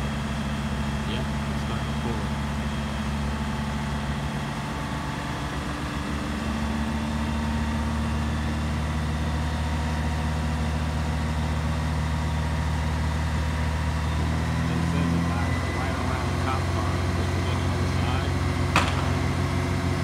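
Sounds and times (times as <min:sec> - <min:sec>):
large vehicle engine idling: 0:00.0 - 0:20.0.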